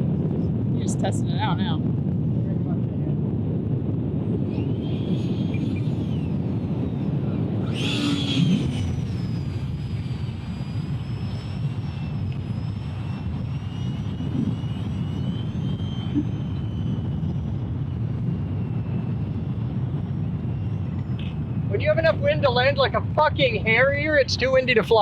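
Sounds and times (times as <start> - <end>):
model jet fan whining: 0.0 - 25.0
wind rumble on microphone: 0.0 - 25.0.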